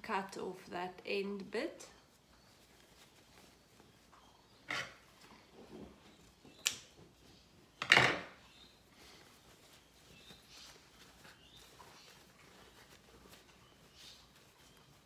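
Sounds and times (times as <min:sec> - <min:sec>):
fabric rustling: 0:02.0 - 0:15.0.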